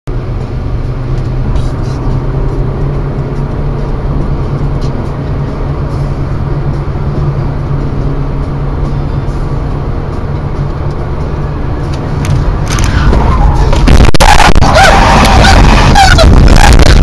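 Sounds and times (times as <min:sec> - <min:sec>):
car cruising interior drone: 0:00.1 - 0:17.0.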